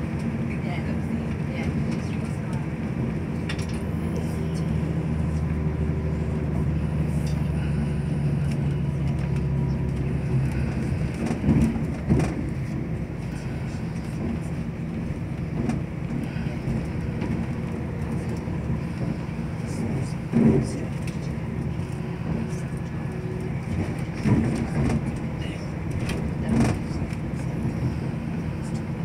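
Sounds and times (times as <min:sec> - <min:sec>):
low engine drone: 0:00.0 - 0:29.0
wheels rumbling on rail: 0:00.0 - 0:29.0.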